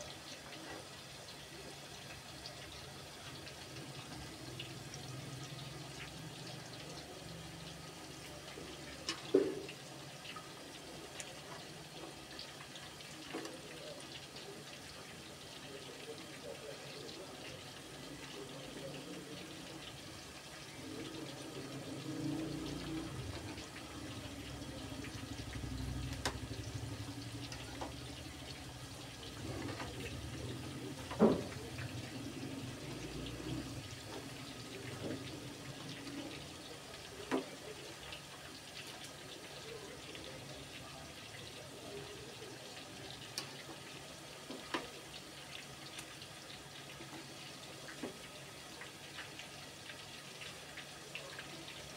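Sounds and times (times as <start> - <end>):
food deep-frying in oil: 0.0 - 51.9.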